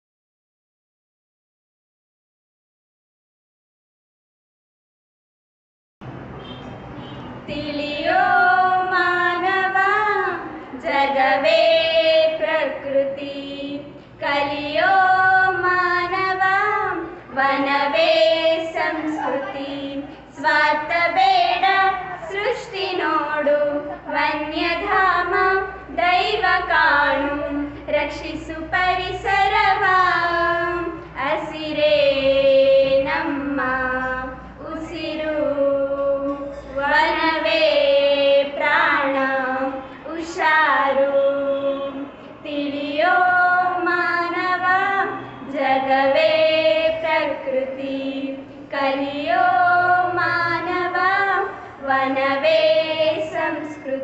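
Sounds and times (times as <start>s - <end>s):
girls singing together: 7.4s - 54.0s.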